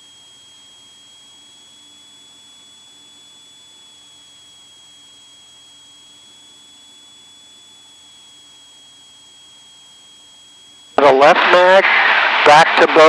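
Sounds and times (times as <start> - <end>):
high-pitched electronic whine: 0.0 - 13.0.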